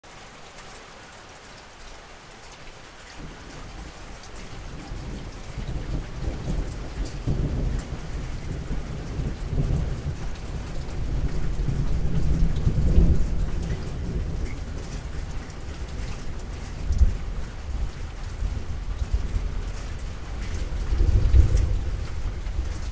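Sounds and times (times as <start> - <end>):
steady rain: 0.0 - 22.9
thunder rumbling: 3.2 - 22.9.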